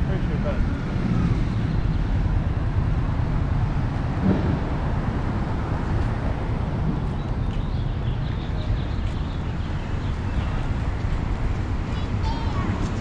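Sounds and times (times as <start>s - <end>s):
traffic rumbling past: 0.0s - 13.0s.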